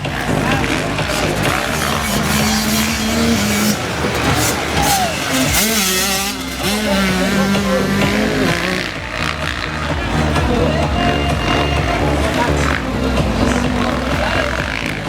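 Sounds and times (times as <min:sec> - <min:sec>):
dirt bike engines revving: 0:00.0 - 0:15.0
music playing: 0:00.0 - 0:15.0.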